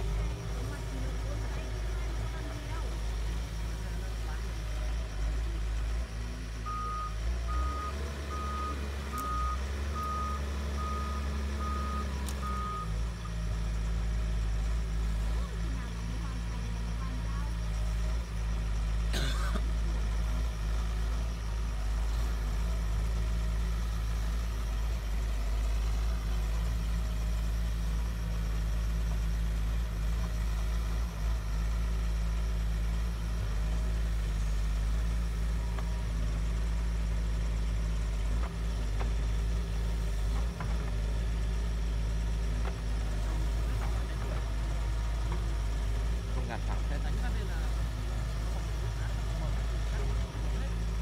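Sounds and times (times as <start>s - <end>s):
diesel engine running at low revs: 0.0s - 51.0s.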